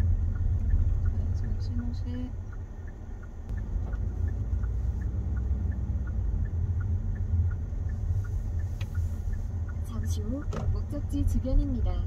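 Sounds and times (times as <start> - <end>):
car rolling rumble: 0.0 - 12.0
turn-signal indicator ticking: 0.0 - 12.0.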